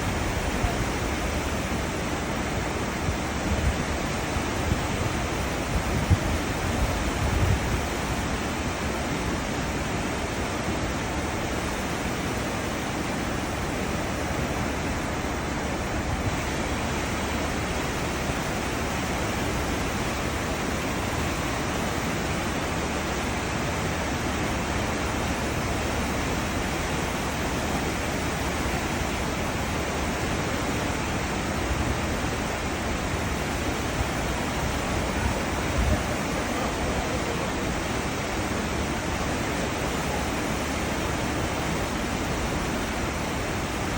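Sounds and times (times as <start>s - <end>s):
ship wake rushing water: 0.0s - 43.9s.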